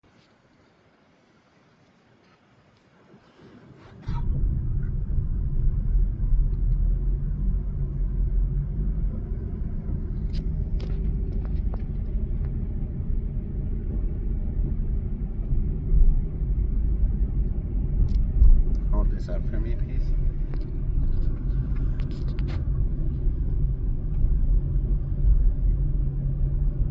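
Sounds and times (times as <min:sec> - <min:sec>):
car rumble on road: 0:03.2 - 0:26.9.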